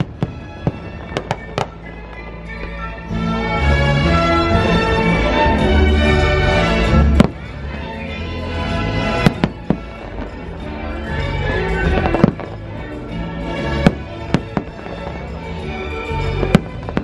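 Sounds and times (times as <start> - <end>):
fireworks bursting: 0.0 - 17.0
soundtrack music: 0.0 - 17.0.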